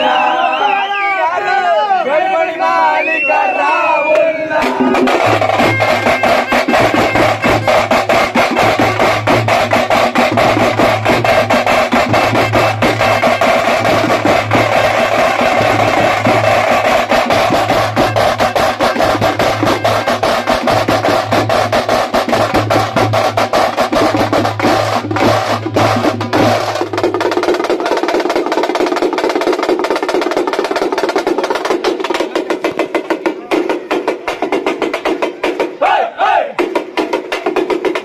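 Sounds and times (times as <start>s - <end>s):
street drum band drumming: 0.0s - 38.0s.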